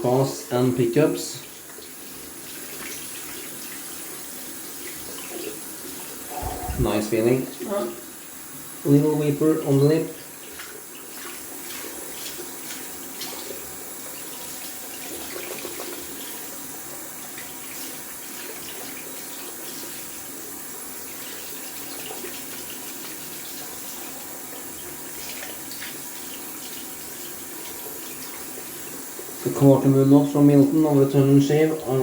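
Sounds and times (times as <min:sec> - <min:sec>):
shaving brush rinsed with splashes: 0:01.4 - 0:07.8, 0:08.6 - 0:32.0.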